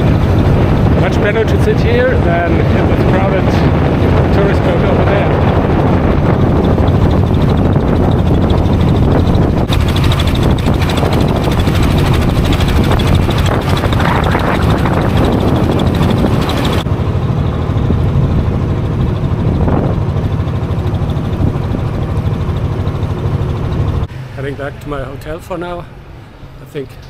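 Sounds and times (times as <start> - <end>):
boat engine running: 0.0 - 27.0
wind: 0.0 - 27.0.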